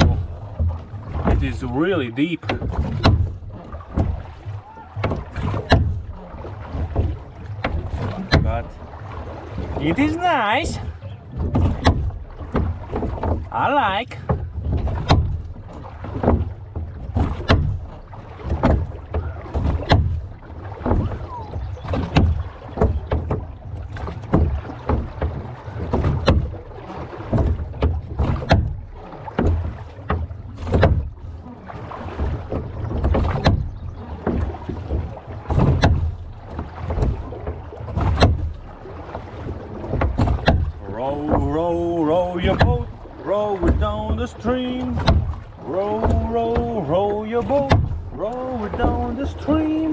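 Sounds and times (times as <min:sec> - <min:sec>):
oars knocking in oarlocks: 0:00.0 - 0:49.9.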